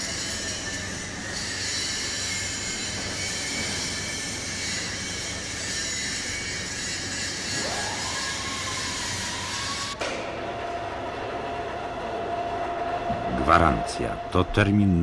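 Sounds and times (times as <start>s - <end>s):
industrial machinery hiss and rumble: 0.0s - 15.0s
steady hum: 0.0s - 15.0s.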